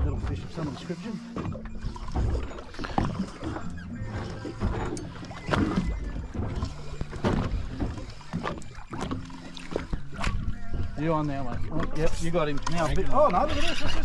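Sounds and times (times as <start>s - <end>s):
water slapping against boat hull: 0.0s - 14.0s.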